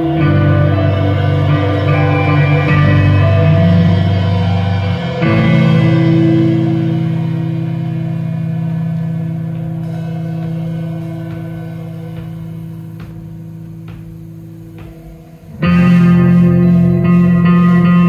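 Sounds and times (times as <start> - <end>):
electric guitars sustained chord: 0.0 - 18.0.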